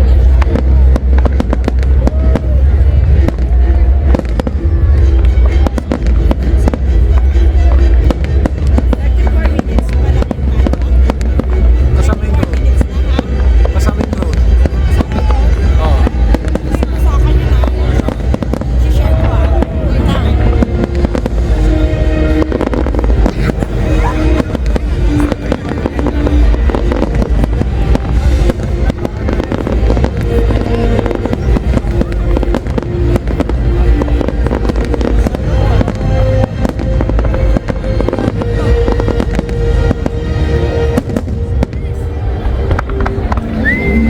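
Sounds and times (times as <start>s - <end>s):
fireworks booming and crackling: 0.0s - 44.0s
music playing: 0.0s - 44.0s.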